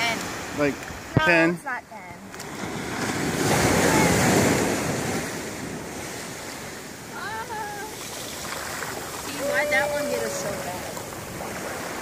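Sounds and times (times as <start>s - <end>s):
ocean surf washing over sand: 0.0s - 12.0s.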